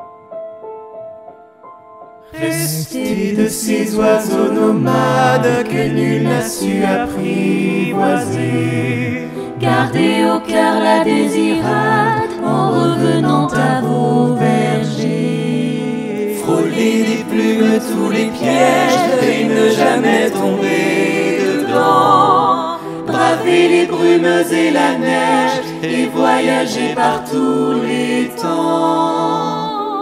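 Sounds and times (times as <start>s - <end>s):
mixed choir singing in harmony: 2.4s - 30.0s.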